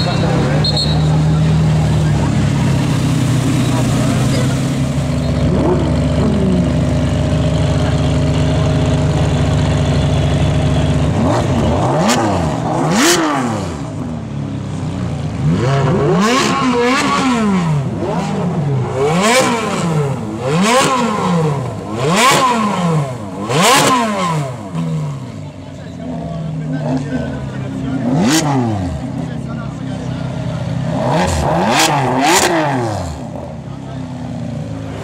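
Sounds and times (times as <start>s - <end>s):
sports car engine idling and revving: 0.0s - 35.0s.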